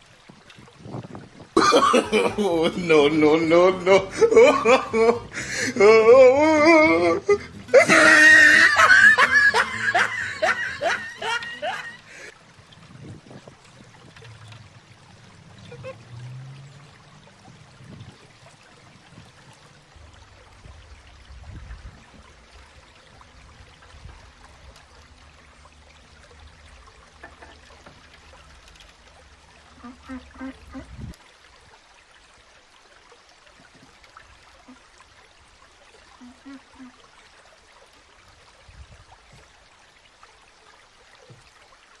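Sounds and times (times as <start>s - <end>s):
running water trickling: 0.0s - 42.0s.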